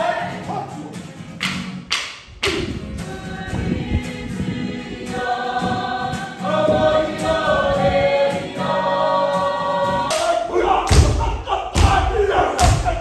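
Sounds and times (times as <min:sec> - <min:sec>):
choir singing: 0:00.0 - 0:00.9, 0:02.5 - 0:13.0.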